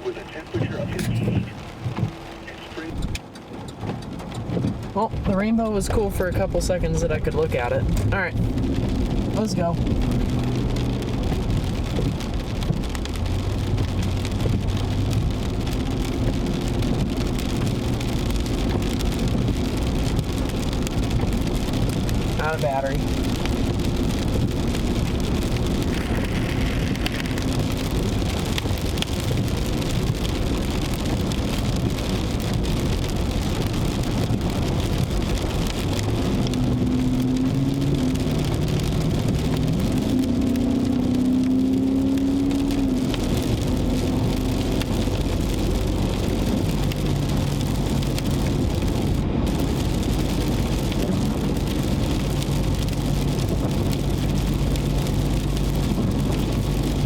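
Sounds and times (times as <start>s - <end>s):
rain on a car: 0.0s - 57.0s
road and engine noise: 0.0s - 57.0s.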